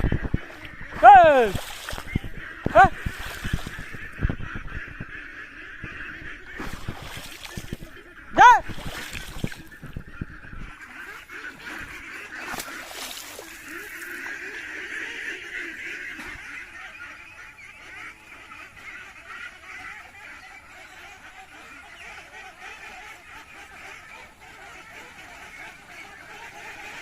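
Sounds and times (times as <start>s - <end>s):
ducks calling: 0.0s - 27.0s.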